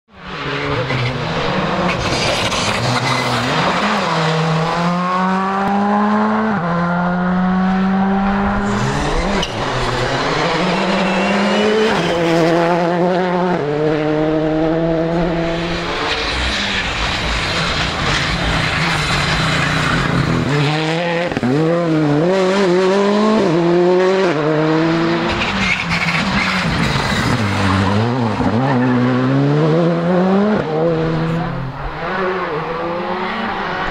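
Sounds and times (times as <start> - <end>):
rally car engines revving: 0.1 - 33.9.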